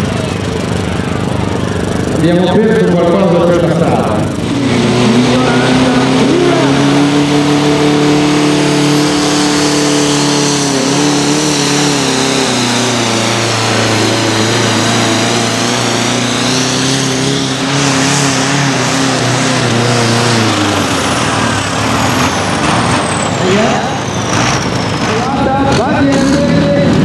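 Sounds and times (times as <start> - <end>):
tractor engine droning under load: 0.0 - 27.0.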